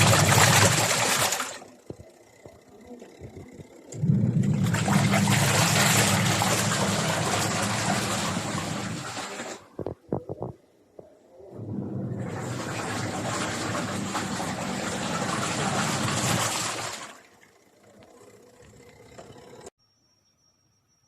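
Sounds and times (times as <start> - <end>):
water gurgling in washing machine: 0.0 - 10.5, 11.5 - 19.7.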